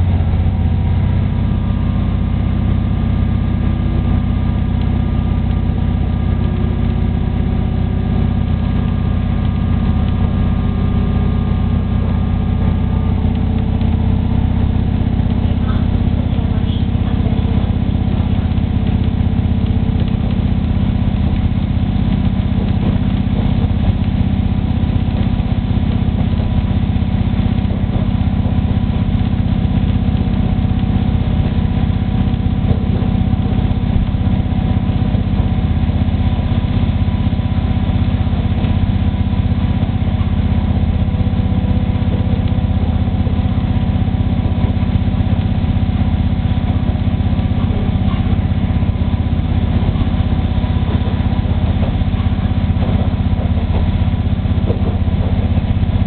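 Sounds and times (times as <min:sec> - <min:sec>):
diesel railcar engine drone: 0:00.0 - 0:56.0
train running on rails: 0:00.0 - 0:56.0.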